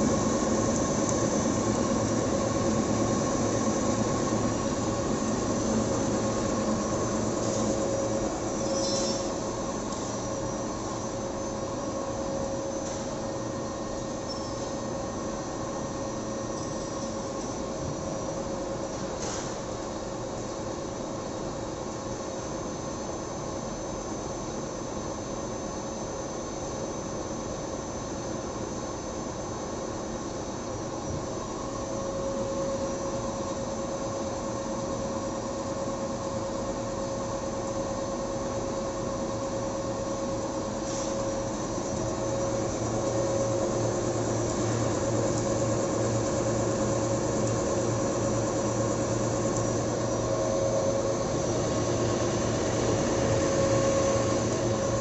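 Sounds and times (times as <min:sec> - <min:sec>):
machine motor humming and whining: 0:00.0 - 0:20.2, 0:29.9 - 0:55.0.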